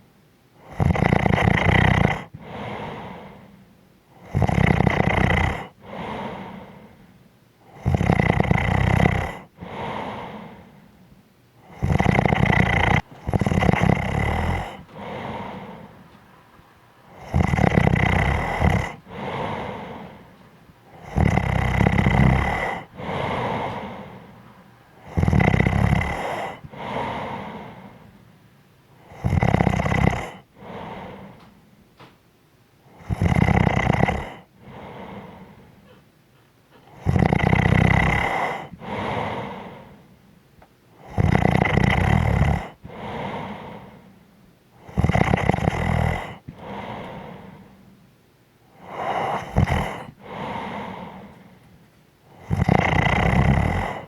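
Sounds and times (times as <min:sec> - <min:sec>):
person snoring: 0:00.6 - 0:07.1, 0:07.7 - 0:11.0, 0:11.6 - 0:16.1, 0:17.0 - 0:24.4, 0:25.0 - 0:28.2, 0:29.0 - 0:31.6, 0:32.9 - 0:36.0, 0:36.8 - 0:40.1, 0:41.0 - 0:44.2, 0:44.8 - 0:47.8, 0:48.7 - 0:51.6, 0:52.3 - 0:54.0.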